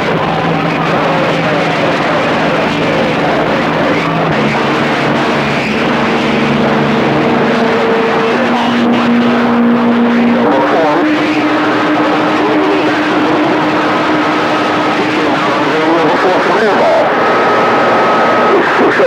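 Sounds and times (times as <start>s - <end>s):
radio static hiss: 0.0s - 19.0s
whining carrier tones: 0.0s - 19.0s.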